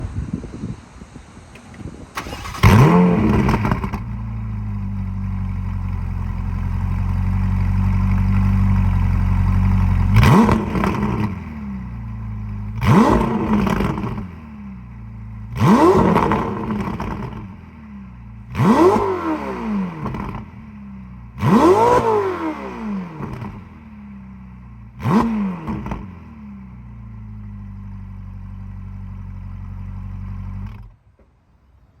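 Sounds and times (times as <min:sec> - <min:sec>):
car engine idling and revving: 0:01.5 - 0:31.6.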